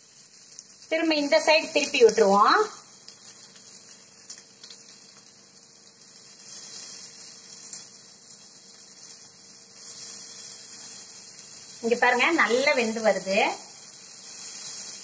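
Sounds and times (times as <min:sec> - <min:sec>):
skewers sizzling on iron griddle: 0:00.0 - 0:15.0.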